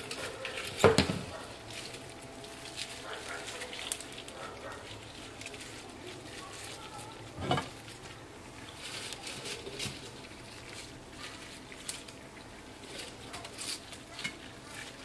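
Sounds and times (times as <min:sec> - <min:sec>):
lettuce leaves rustling: 0:00.0 - 0:15.0
plastic gloves crinkling: 0:00.0 - 0:15.0.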